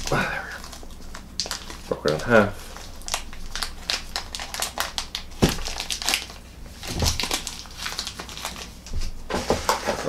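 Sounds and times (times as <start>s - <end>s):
packaging crinkling: 0.0s - 9.0s.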